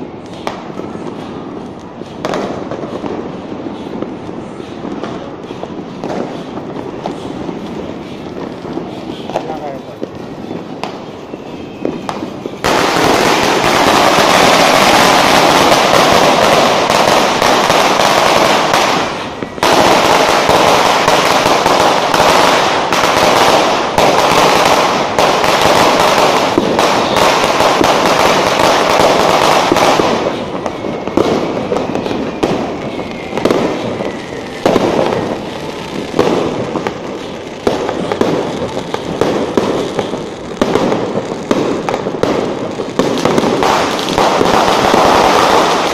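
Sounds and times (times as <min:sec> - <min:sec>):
aerial fireworks: 0:00.0 - 0:45.9
firecracker string crackling: 0:00.0 - 0:45.9
single firecracker bangs: 0:00.0 - 0:45.9.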